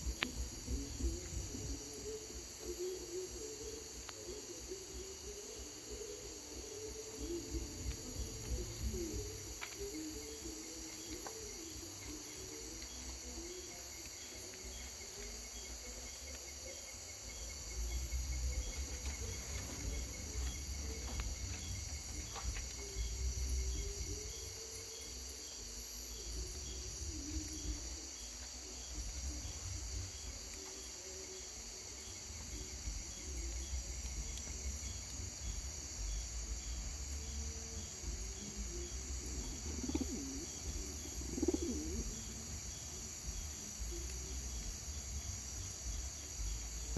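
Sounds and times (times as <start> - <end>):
crickets trilling: 0.0 - 46.9
pulsing insect chirp: 0.0 - 46.9.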